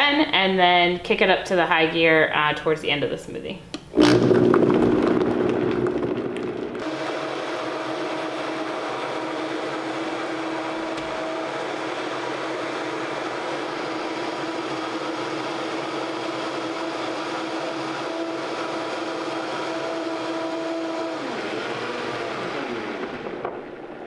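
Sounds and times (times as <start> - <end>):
blender motor whirring: 3.8 - 23.4.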